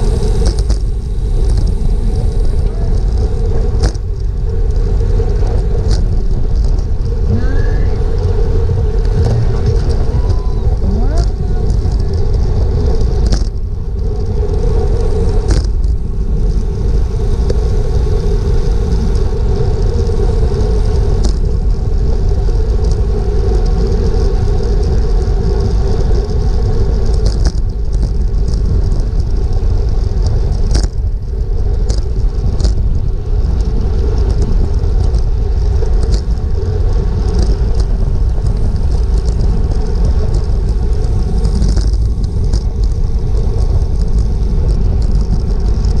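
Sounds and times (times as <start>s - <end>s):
bike tyres humming on asphalt: 0.0s - 46.0s
wind on camera microphone: 0.0s - 46.0s.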